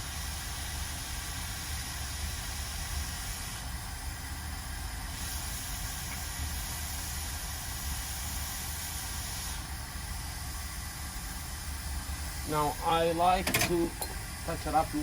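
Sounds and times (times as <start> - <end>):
hiss of blowing air: 0.0 - 15.0.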